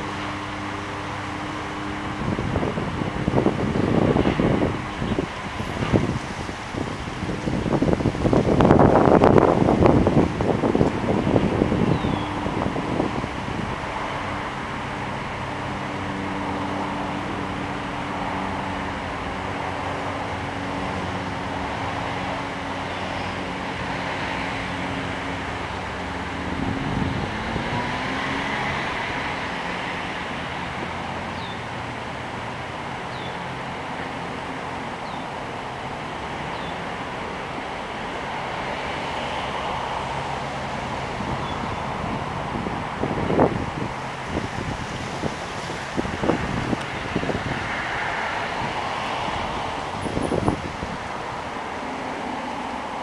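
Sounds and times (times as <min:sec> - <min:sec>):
low engine hum: 0:00.0 - 0:53.0
wind noise: 0:00.0 - 0:53.0.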